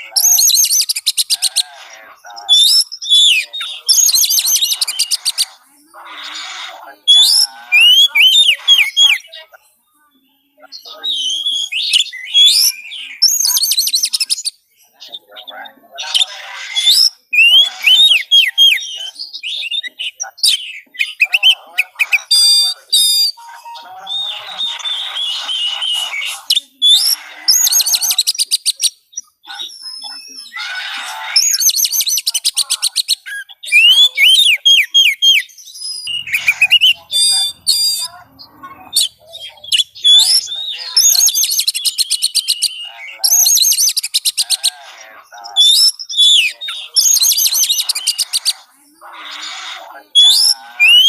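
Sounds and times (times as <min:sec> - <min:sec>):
bird singing whistled phrases: 0:00.0 - 0:01.5, 0:02.5 - 0:05.5, 0:07.0 - 0:09.4, 0:10.8 - 0:14.6, 0:16.7 - 0:30.6, 0:31.3 - 0:44.5, 0:45.5 - 0:48.6, 0:50.0 - 0:51.0.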